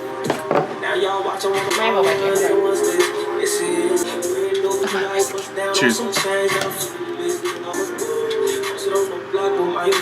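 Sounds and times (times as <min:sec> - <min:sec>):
hip-hop music with vocals: 0:00.0 - 0:10.0.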